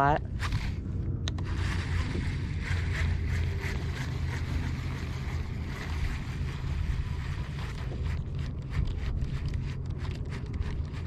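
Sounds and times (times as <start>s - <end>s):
wind buffeting microphone: 0.0s - 11.0s
fishing reel whirring: 1.4s - 11.0s.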